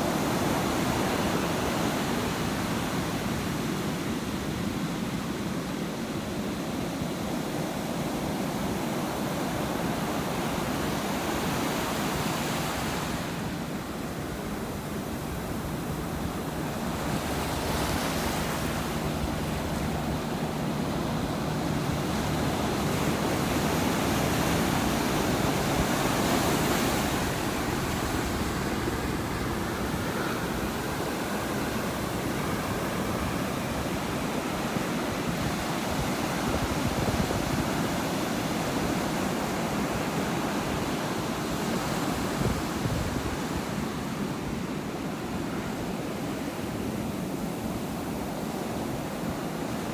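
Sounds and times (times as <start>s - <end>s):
ocean surf washing: 0.0s - 49.9s.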